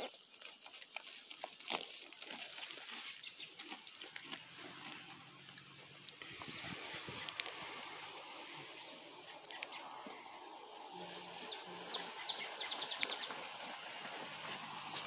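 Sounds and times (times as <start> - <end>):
horse tearing and chewing grass: 0.0 - 15.0
songbird singing: 2.9 - 15.0.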